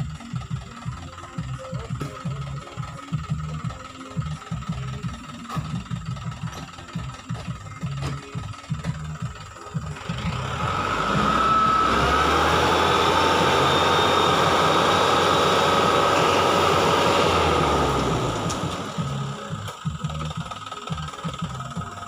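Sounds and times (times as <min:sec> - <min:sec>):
hydraulic hoist whine: 0:00.0 - 0:22.0
truck engine revving: 0:00.0 - 0:22.0.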